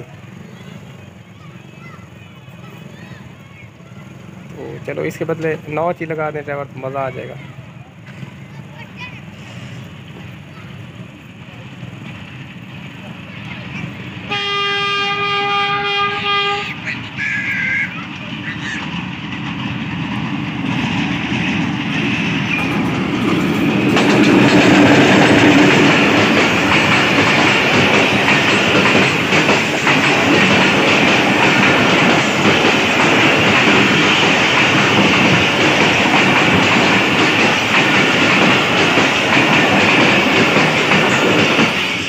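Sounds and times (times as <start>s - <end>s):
diesel locomotive passing: 0.0s - 42.0s
train wheels clattering over rails: 7.6s - 42.0s.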